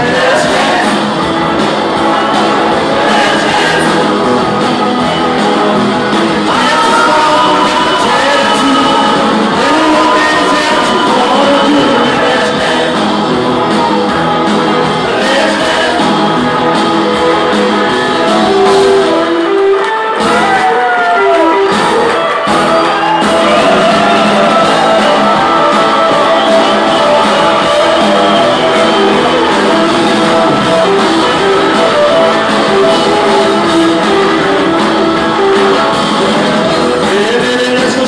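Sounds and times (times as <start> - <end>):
drums: 0.0 - 38.0
electric guitars: 0.0 - 38.0
people singing and shouting: 0.0 - 38.0.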